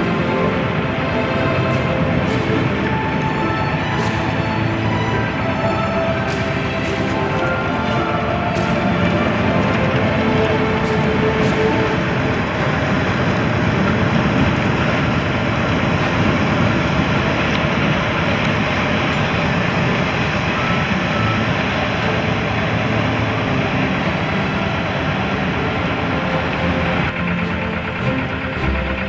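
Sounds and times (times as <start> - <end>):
ship engines rumbling: 0.0 - 29.0.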